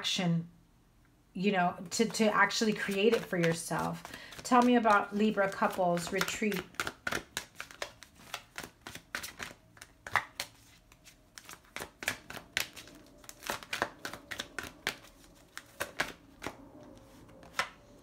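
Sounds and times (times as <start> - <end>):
cards being shuffled: 2.0 - 18.0.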